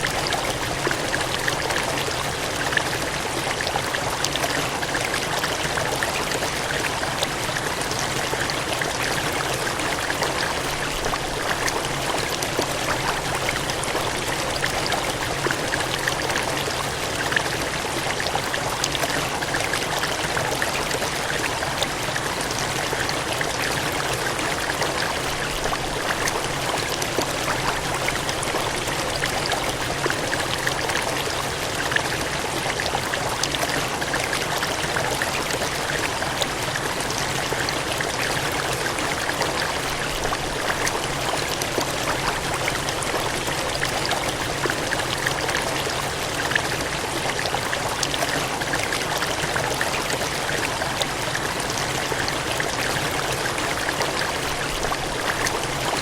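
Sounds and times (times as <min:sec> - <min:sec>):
water gushing and cascading: 0:00.0 - 0:56.0.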